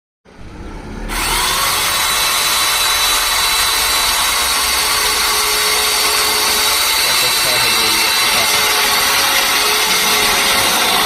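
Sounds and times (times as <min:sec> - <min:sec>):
power saw cutting wood: 0:01.1 - 0:11.0.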